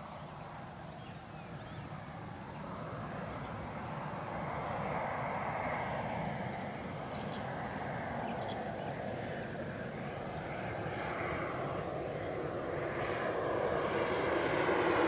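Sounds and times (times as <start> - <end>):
jet aircraft rushing noise: 2.6 - 15.0.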